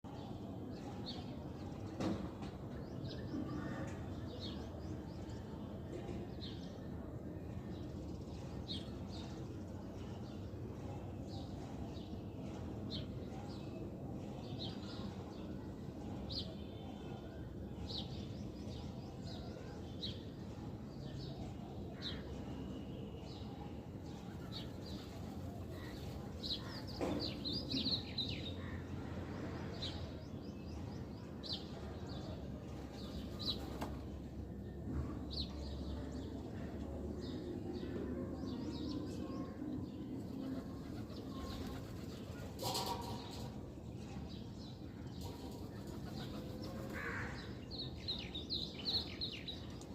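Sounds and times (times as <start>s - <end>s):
low background noise: 0.0s - 49.9s.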